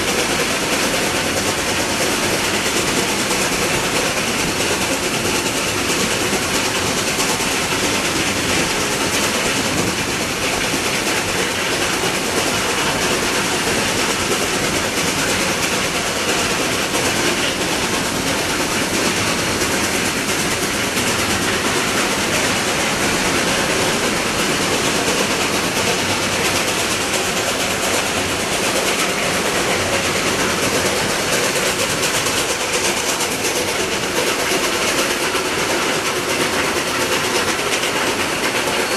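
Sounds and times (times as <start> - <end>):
steam locomotive exhaust: 0.0 - 38.9
train wheels on rails: 0.0 - 38.9.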